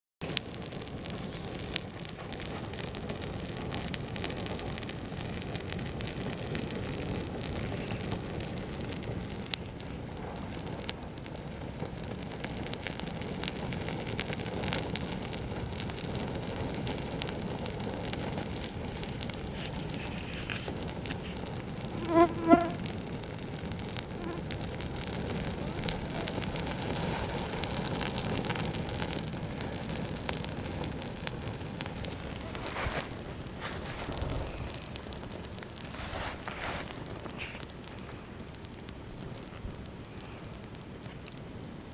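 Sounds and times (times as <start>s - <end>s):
campfire crackling: 0.2s - 41.9s.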